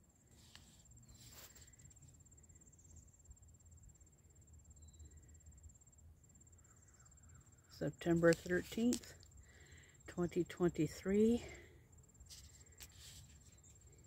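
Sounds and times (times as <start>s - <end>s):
cricket trill: 0.0s - 14.0s.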